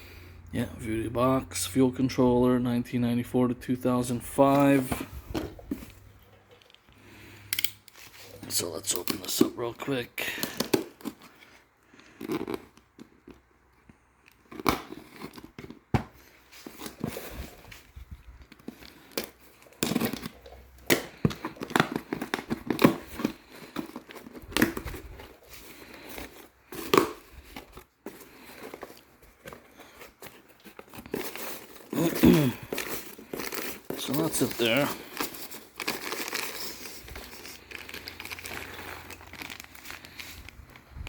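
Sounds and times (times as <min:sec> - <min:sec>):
packaging crinkling and tearing: 0:06.7 - 0:13.5, 0:14.3 - 0:41.0.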